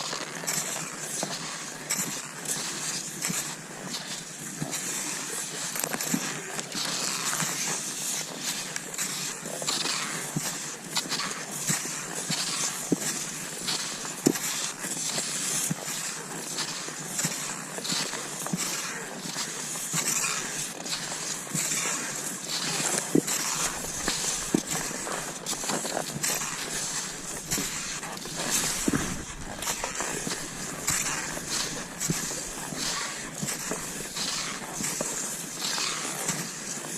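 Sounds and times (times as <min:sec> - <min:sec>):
clicks from skis and poles: 0:00.0 - 0:36.9
skis swishing over snow: 0:00.0 - 0:36.9.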